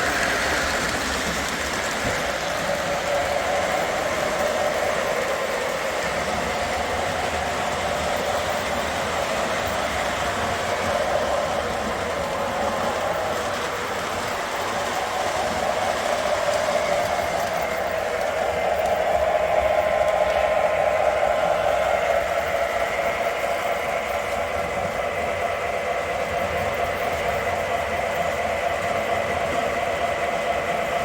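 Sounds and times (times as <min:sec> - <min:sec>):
model train rolling rumble: 0:00.0 - 0:31.0.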